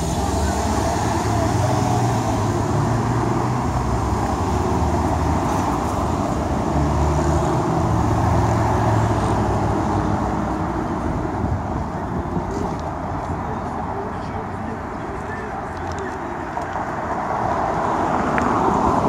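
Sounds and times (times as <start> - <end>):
cars driving past: 0.0 - 14.1, 15.2 - 19.0
road noise: 0.0 - 19.0.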